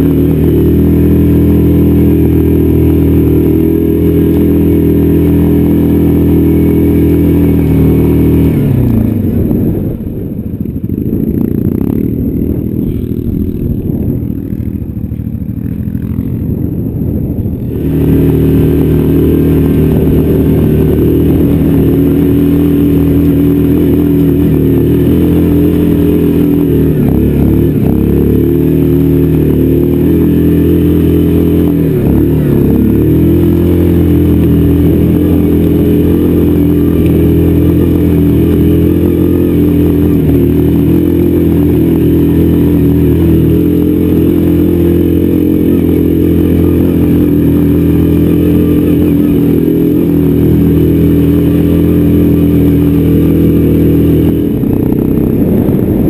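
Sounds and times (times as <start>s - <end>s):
atv engine climbing hill: 0.0s - 56.0s.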